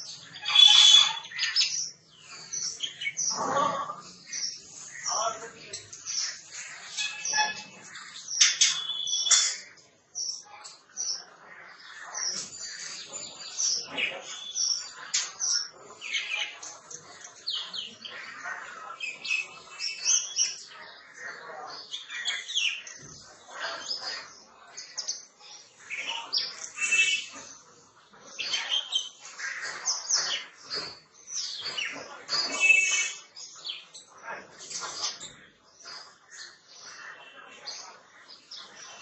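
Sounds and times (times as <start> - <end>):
birds chirping and calling: 0.0 - 39.0.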